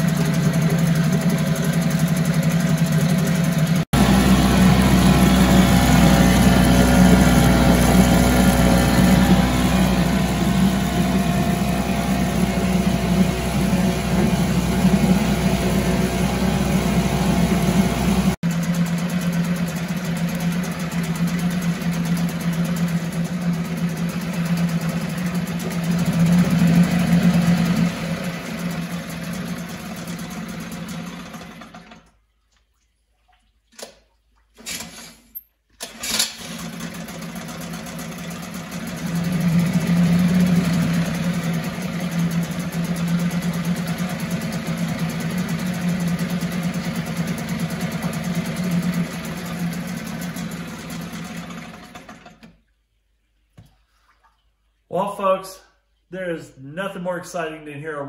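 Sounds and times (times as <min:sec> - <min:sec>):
outboard motor running: 0:00.0 - 0:32.2, 0:36.4 - 0:52.6.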